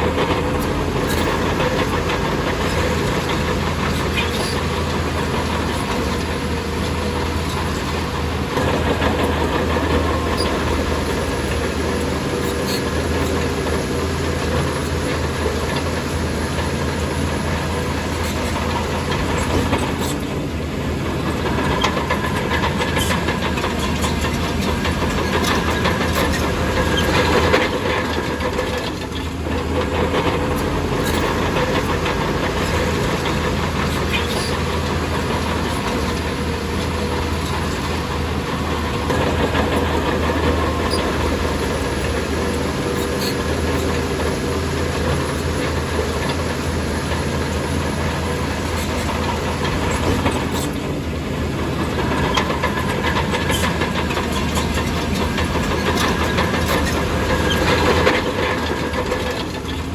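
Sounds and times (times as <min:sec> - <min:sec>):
bulldozer diesel engine running: 0:00.0 - 0:59.9
steel tracks clanking: 0:00.0 - 0:59.9.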